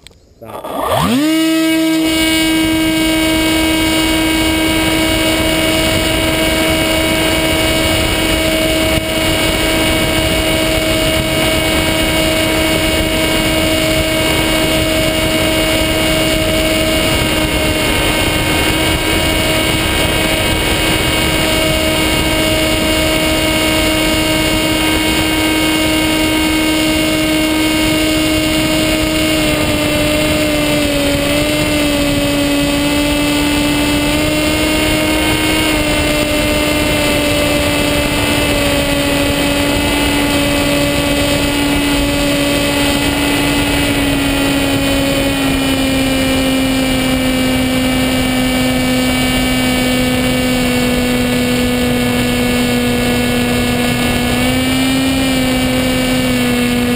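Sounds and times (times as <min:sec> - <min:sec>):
electric motor and propeller: 0:00.0 - 0:56.9.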